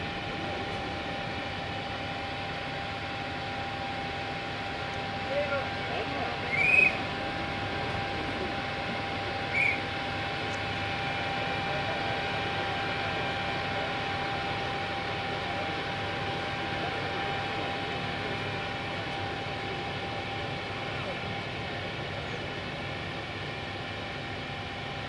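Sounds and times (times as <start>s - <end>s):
heavy machinery whining and droning: 0.0s - 25.0s.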